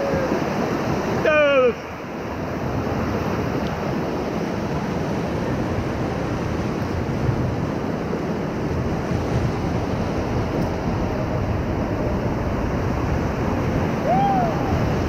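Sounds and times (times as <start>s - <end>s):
whitewater rapids rushing: 0.0s - 15.0s.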